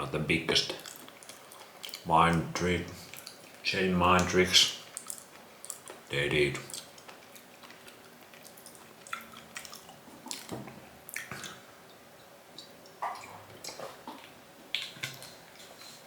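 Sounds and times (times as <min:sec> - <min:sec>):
wet chewing and mouth smacks: 0:00.7 - 0:02.1, 0:03.0 - 0:03.6, 0:04.2 - 0:12.0, 0:12.6 - 0:16.0.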